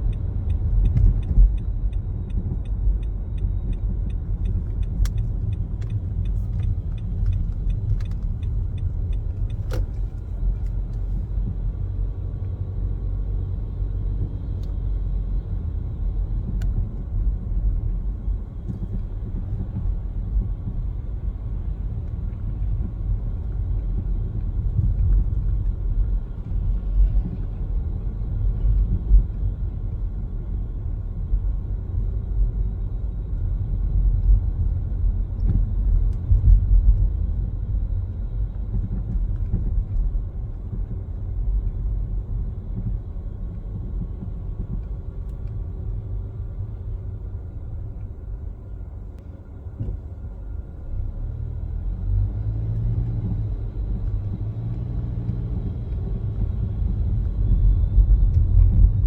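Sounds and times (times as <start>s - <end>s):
tyre and engine rumble: 0.0s - 59.0s.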